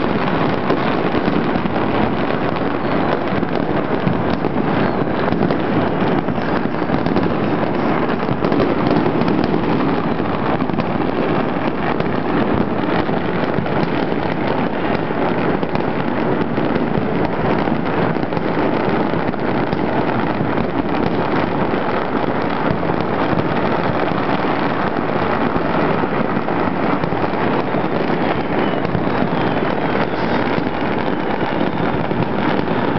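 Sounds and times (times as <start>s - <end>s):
dense firecracker crackle: 0.0s - 32.9s.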